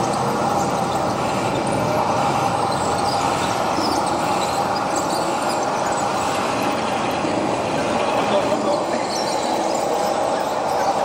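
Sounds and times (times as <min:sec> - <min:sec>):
faint constant whine: 0:00.0 - 0:11.0
toy machine motors droning: 0:00.0 - 0:11.0.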